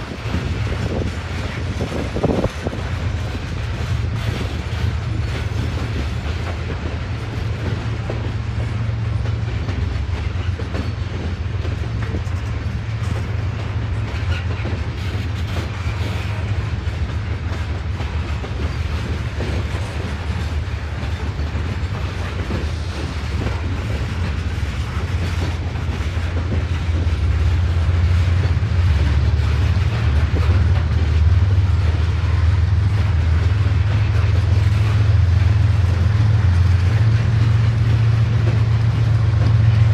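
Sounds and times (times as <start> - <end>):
train rumbling: 0.0 - 39.9
train wheels clicking over rails: 0.0 - 39.9.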